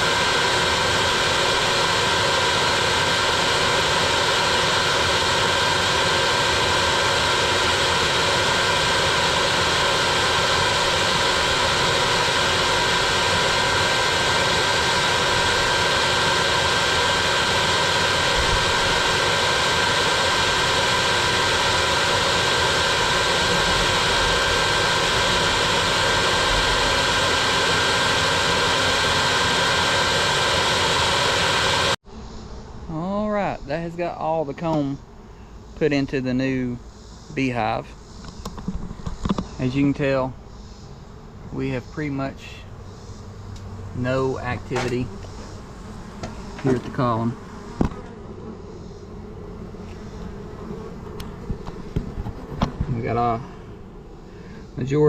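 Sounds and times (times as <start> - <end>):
vacuum motor humming and whining: 0.0 - 32.0, 41.4 - 55.0.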